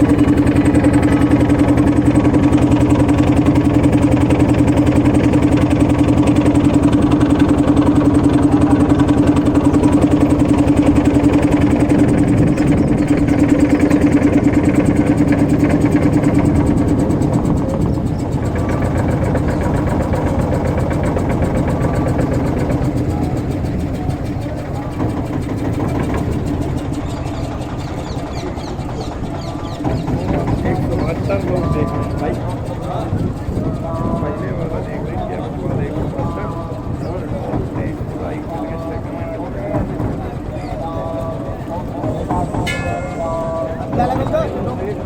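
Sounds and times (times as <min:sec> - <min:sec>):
motorboat engine droning: 0:00.0 - 0:45.0.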